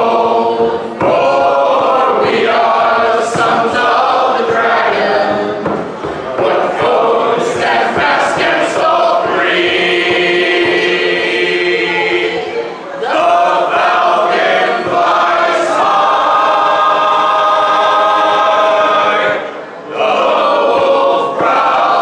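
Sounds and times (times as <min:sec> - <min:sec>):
people singing a cappella: 0:00.0 - 0:22.0.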